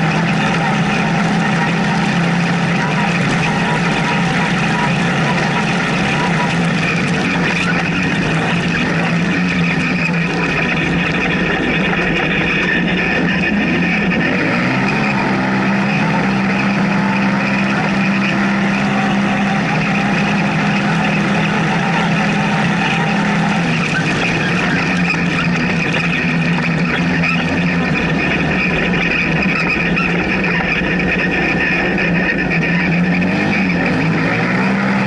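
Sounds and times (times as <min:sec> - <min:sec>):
off-road vehicle engine drone: 0:00.0 - 0:35.0
road and chassis noise: 0:00.0 - 0:35.0.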